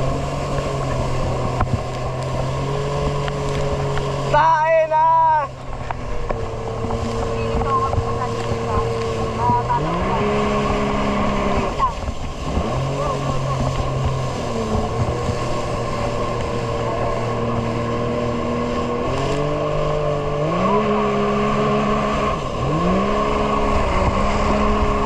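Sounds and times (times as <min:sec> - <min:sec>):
jet ski engine running: 0:00.0 - 0:25.0
steady rushing noise: 0:00.0 - 0:25.0.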